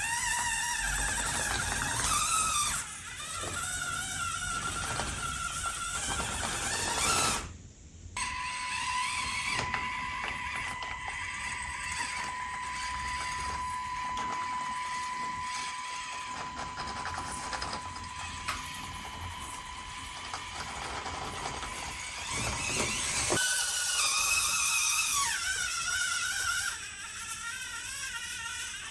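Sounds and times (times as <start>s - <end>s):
gears and tyres clicking: 0.0s - 7.5s, 8.8s - 28.9s
small electric motor whining: 0.0s - 7.6s, 8.2s - 28.9s.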